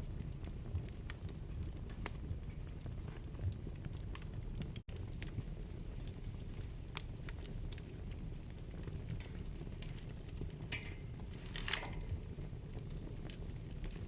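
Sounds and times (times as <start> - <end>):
fire crackling and popping: 0.0 - 14.0
fire low rumble: 0.0 - 14.0.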